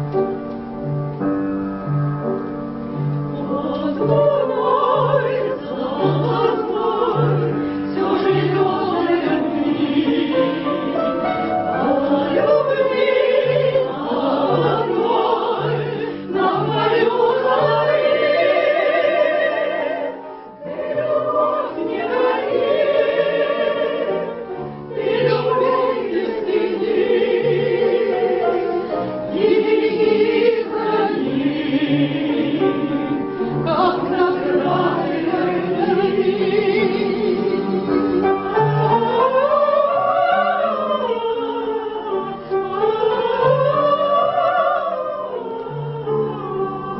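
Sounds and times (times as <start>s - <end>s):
voices singing operatically: 3.4s - 46.9s.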